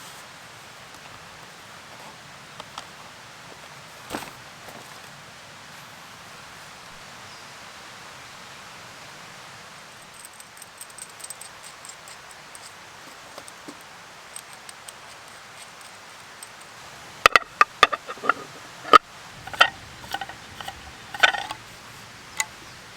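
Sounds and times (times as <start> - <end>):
steady rain in woods: 0.0 - 17.4, 18.4 - 20.0, 21.6 - 22.9.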